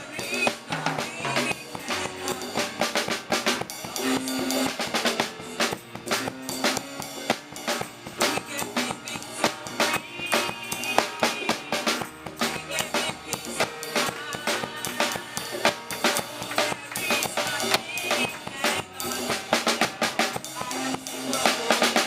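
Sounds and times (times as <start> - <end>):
drum kit with rimshots: 0.0 - 22.0
gospel band playing: 0.0 - 22.0.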